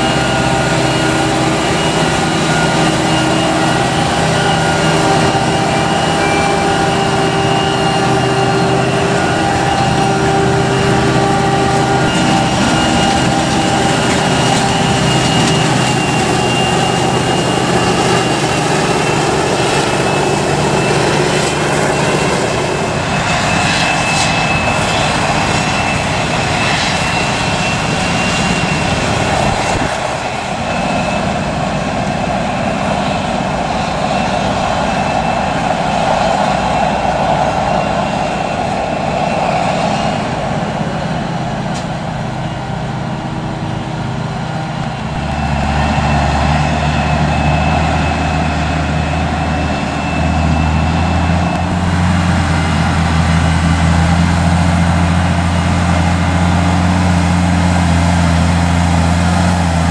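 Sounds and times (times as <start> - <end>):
heavy machine running: 0.0 - 59.9
high steady whine: 0.0 - 59.9.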